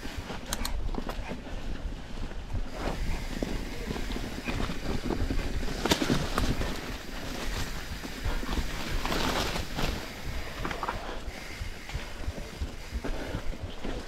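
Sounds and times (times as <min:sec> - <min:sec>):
bike rattling and knocking: 0:00.0 - 0:14.0
leaves brushing handlebars: 0:00.0 - 0:14.0
wind buffeting microphone: 0:00.0 - 0:14.0
tyres crunching over dirt: 0:02.7 - 0:14.0.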